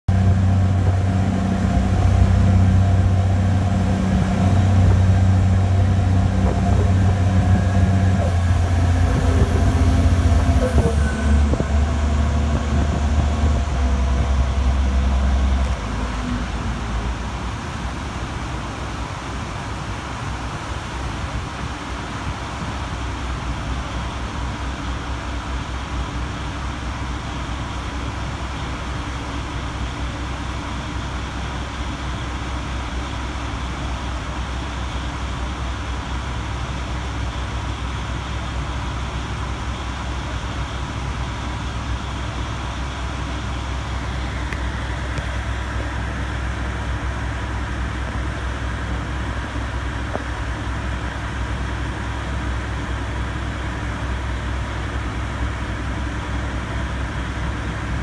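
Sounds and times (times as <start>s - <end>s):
ferry engines droning: 0.0s - 58.0s
rush of wind and water: 0.1s - 58.0s.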